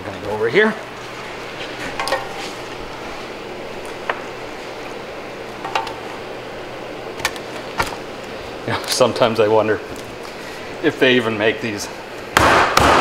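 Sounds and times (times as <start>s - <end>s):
electric fan hum: 0.0s - 13.0s.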